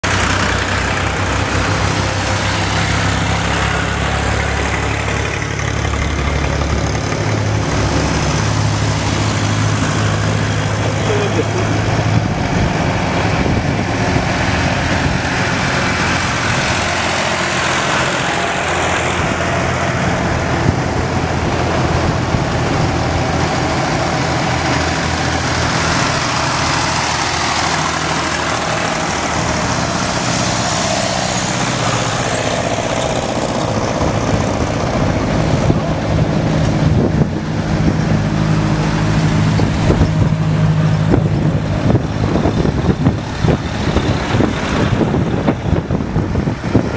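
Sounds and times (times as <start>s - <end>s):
road noise: 0.0s - 46.9s
tractor engines running: 0.0s - 46.9s.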